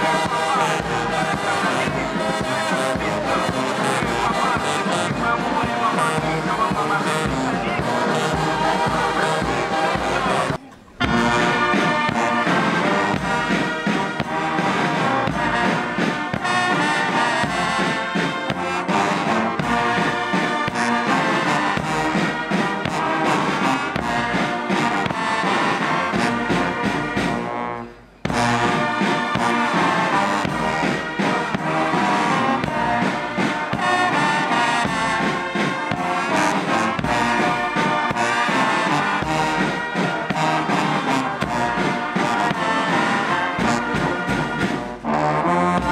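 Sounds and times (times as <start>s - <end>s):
brass band playing a march: 0.0s - 45.9s.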